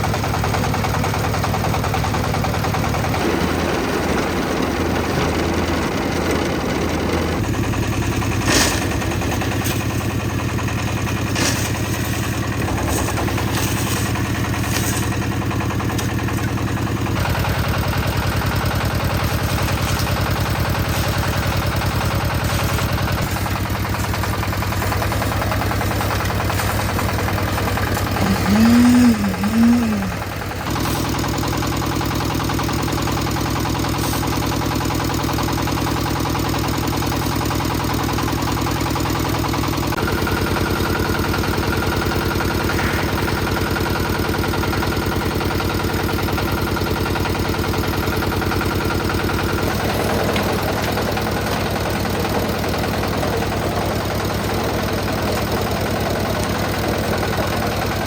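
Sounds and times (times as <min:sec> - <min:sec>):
concrete mixer engine running: 0:00.0 - 0:58.0.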